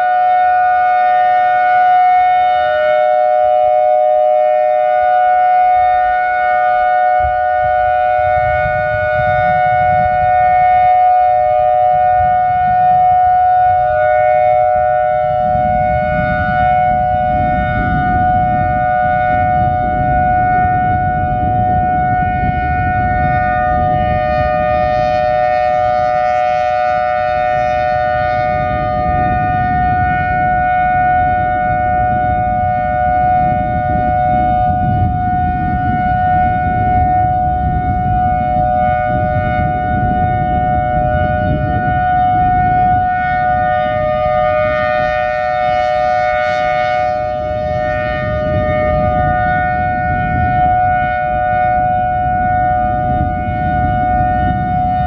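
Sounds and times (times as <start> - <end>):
low rumbling noise: 0.0 - 55.0
outdoor warning siren steady chord: 0.0 - 55.0.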